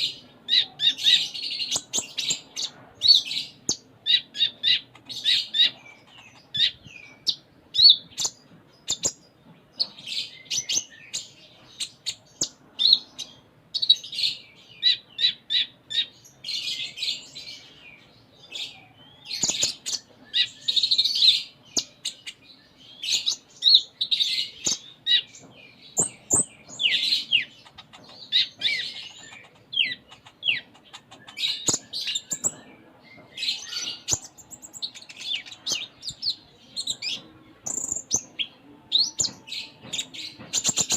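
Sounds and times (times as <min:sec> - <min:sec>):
sunbird chirping and twittering: 0:00.0 - 0:40.9.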